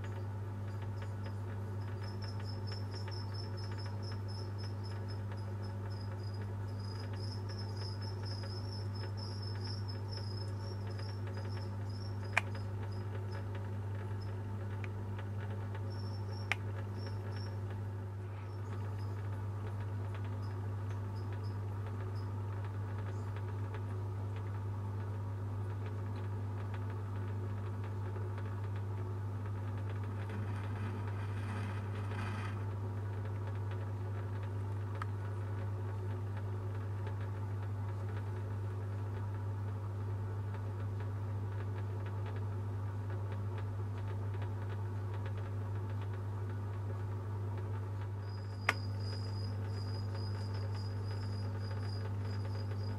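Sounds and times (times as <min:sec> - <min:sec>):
faint clicks and scratches: 0:00.0 - 0:52.9
low electrical hum: 0:00.0 - 0:52.9.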